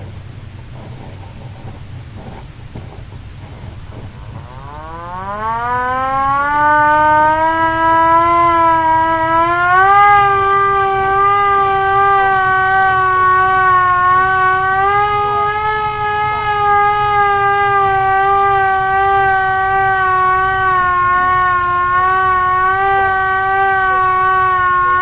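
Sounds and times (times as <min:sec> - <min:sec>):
air raid siren wailing: 0:03.9 - 0:25.0.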